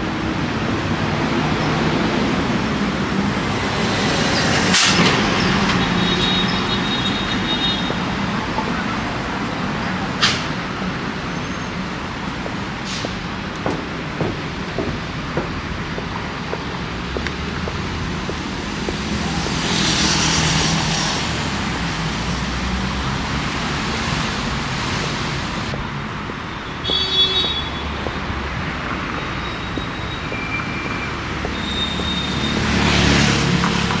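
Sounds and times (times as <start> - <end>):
cars and buses passing: 0.0 - 34.0.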